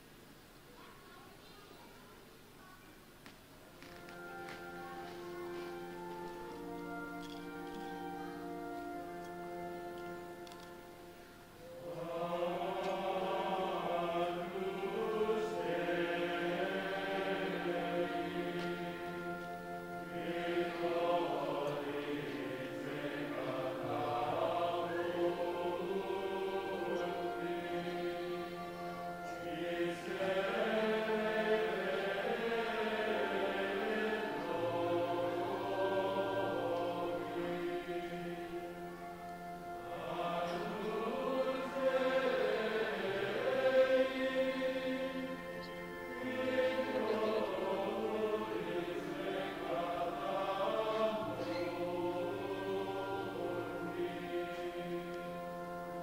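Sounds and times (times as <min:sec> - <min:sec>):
choir singing: 0:03.8 - 0:56.0.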